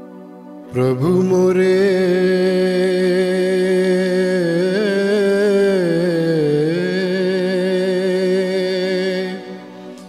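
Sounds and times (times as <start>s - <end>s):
person singing devotional song: 0.6s - 10.0s.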